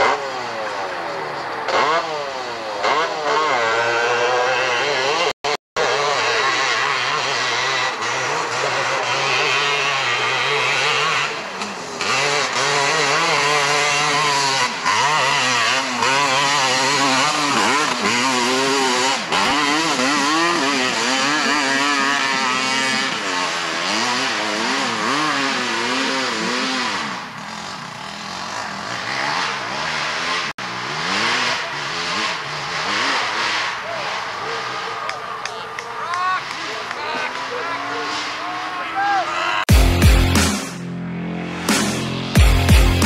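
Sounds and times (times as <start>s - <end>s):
atv engine revving: 0.0s - 43.0s.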